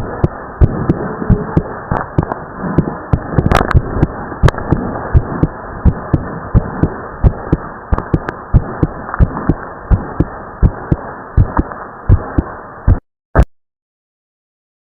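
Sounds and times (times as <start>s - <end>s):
constant hiss: 0.0s - 13.0s
fast heartbeat: 0.0s - 13.0s.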